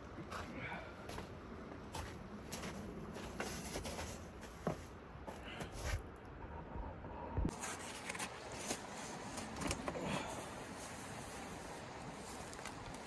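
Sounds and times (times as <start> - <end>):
steady outdoor noise: 0.0 - 13.0.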